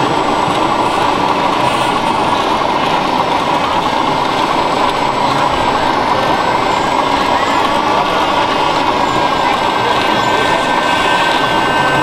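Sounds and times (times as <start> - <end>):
model tractor engine drone: 0.0 - 12.0.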